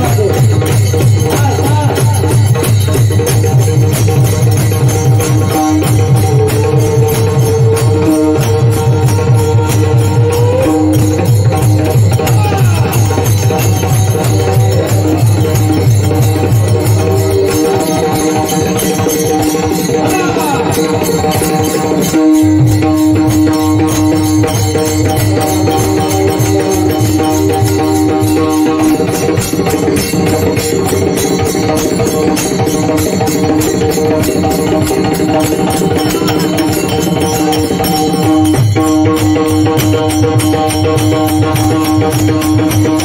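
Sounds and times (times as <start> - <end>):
hand cymbals ringing: 0.0 - 43.0
mridang drumming: 0.0 - 43.0.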